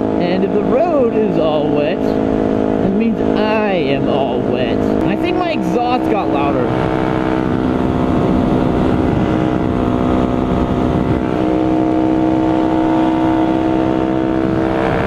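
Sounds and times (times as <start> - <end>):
motorcycle engine and exhaust: 0.0 - 15.0
wind rush over microphone: 0.0 - 15.0.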